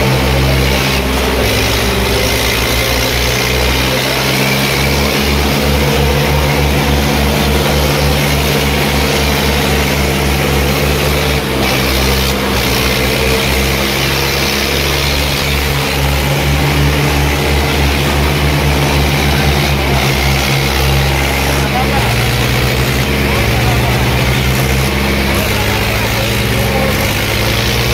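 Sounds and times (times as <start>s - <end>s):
diesel tractor engine running: 0.0s - 27.9s.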